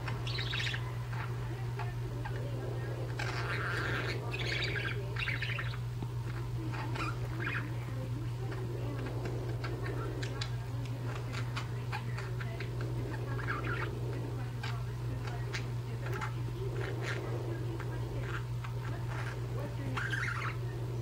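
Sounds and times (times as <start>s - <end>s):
budgerigars chirping: 0.0s - 21.0s
steady low hum: 0.0s - 21.0s.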